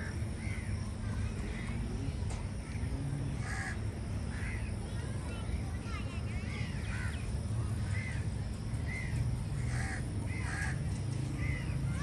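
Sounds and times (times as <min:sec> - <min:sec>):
birds calling: 0:00.0 - 0:12.0
steady low rumble: 0:00.0 - 0:12.0.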